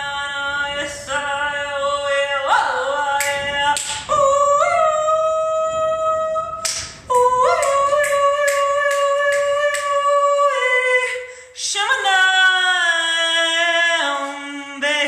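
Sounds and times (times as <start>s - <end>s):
person singing wordless long notes: 0.0s - 15.0s.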